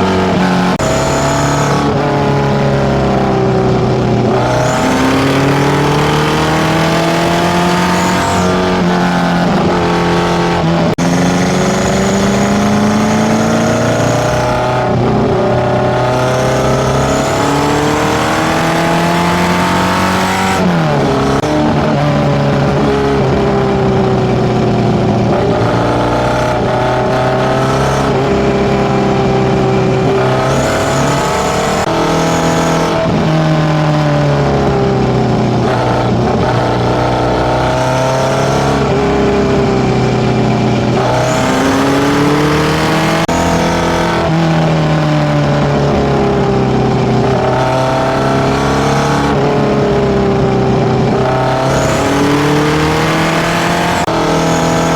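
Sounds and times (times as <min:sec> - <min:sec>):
loud car engine revving: 0:00.0 - 0:54.9.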